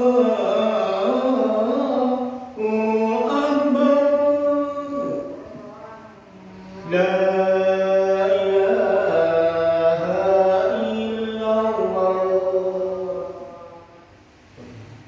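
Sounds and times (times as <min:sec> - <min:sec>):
man chanting into microphone: 0:00.0 - 0:15.0.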